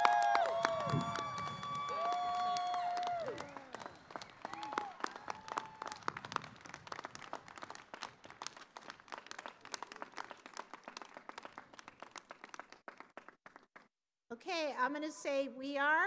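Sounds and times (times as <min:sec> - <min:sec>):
crowd applauding: 0:00.0 - 0:13.9.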